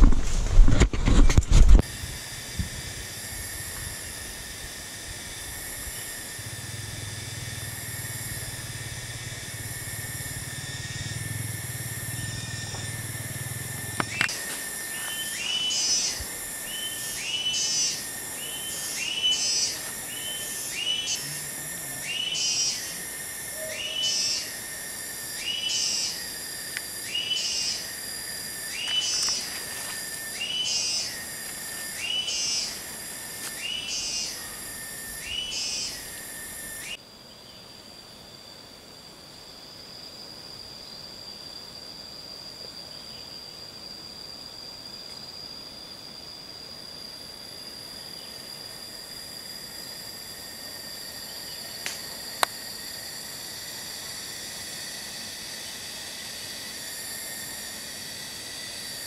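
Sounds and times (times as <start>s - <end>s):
steady high whine: 0.0s - 59.0s.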